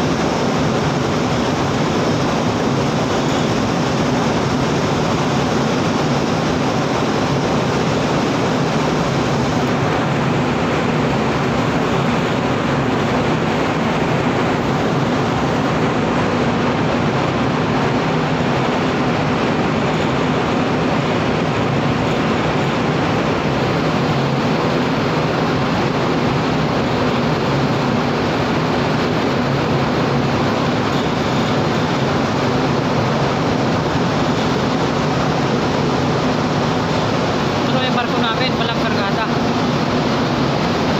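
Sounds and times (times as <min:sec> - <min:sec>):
rush of air and water: 0:00.0 - 0:40.9
ship engine droning: 0:00.0 - 0:40.9.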